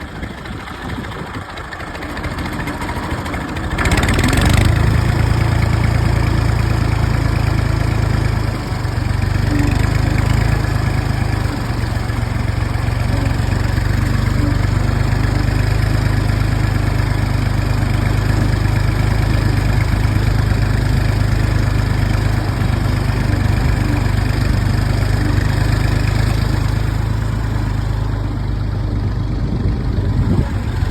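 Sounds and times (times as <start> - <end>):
tractor engine chugging: 0.0 - 30.9.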